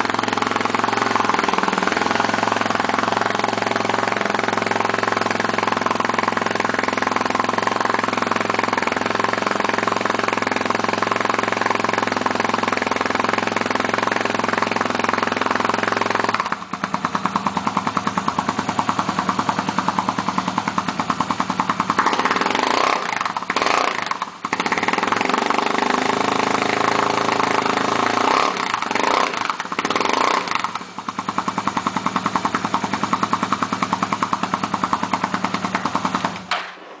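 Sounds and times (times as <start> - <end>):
motorcycle engine idling and revving: 0.0 - 36.8.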